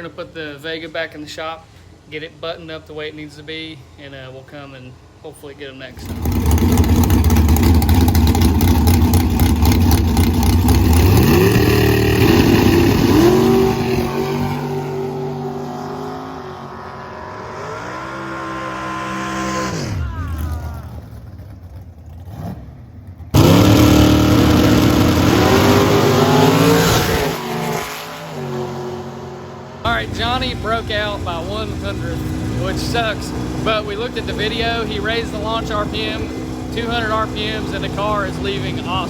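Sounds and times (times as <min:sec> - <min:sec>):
racing car engine through gear changes: 0:06.0 - 0:20.2, 0:20.8 - 0:39.0.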